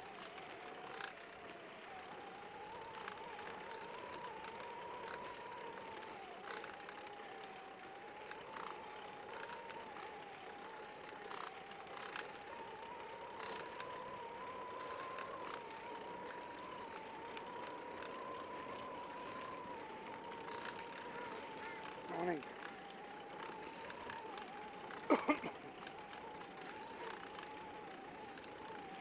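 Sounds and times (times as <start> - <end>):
faint clicks: 0.0 - 29.0
steady whine: 0.0 - 29.0
tyre and drivetrain noise: 0.0 - 29.0.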